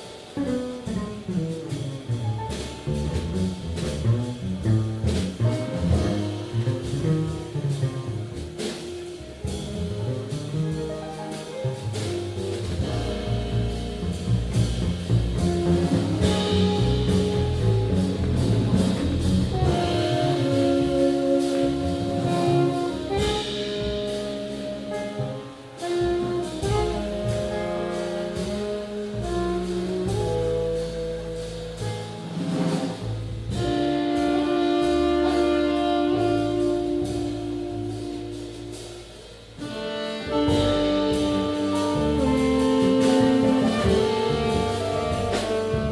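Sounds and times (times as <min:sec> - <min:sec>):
jazz band playing: 0:00.0 - 0:45.9.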